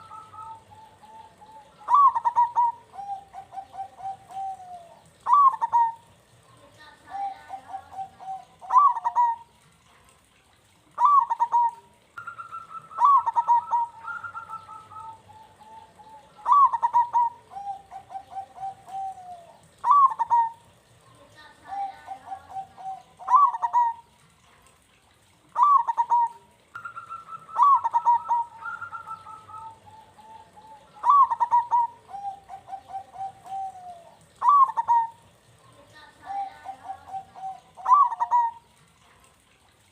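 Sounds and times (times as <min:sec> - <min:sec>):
dove cooing: 0:00.0 - 0:09.6, 0:10.9 - 0:24.2, 0:25.4 - 0:39.1.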